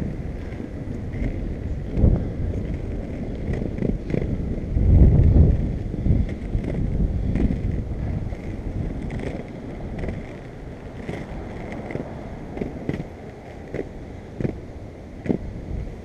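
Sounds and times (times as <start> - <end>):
skateboard wheels rolling on concrete: 0.0 - 16.0
wheels clicking over joints: 0.0 - 16.0
wind on microphone: 0.0 - 16.0.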